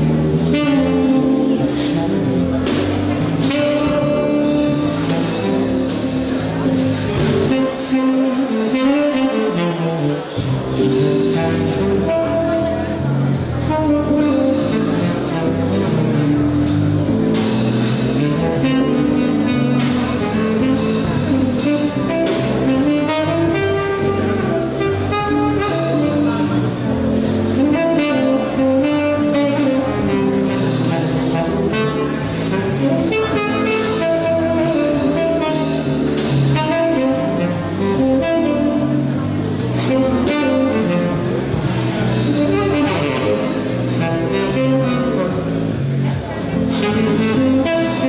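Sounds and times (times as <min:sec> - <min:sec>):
drum kit: 0:00.0 - 0:48.0
saxophone melody: 0:00.0 - 0:48.0.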